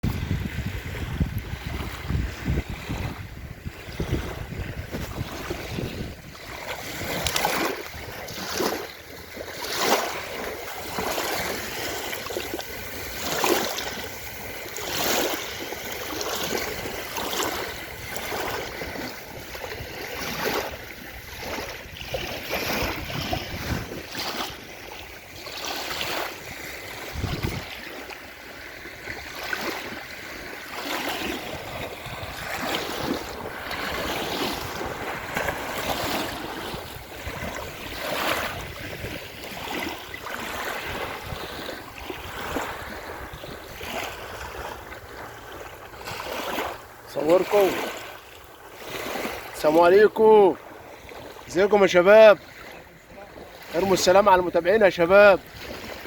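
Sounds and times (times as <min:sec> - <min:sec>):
wind on microphone: 0:00.0 - 0:28.1, 0:28.8 - 0:49.6, 0:55.3 - 0:56.0
sea waves splashing: 0:00.0 - 0:56.0.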